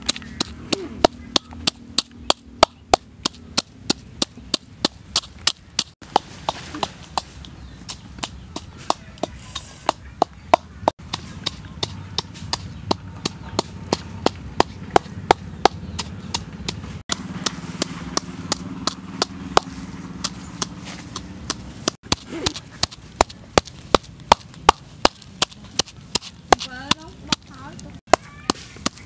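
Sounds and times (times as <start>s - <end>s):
wooden pestle pounding in mortar: 0.0s - 29.0s.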